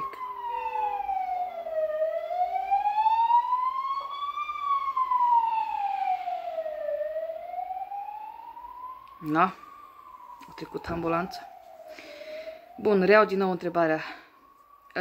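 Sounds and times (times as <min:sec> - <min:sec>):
ambulance siren wailing: 0:00.0 - 0:15.0.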